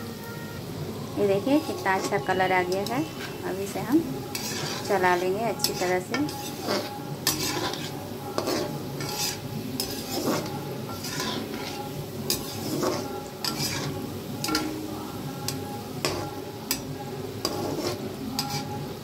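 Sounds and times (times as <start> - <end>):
balls deep-frying in hot oil: 0.0 - 19.0
spatula scraping a pan: 1.4 - 19.0.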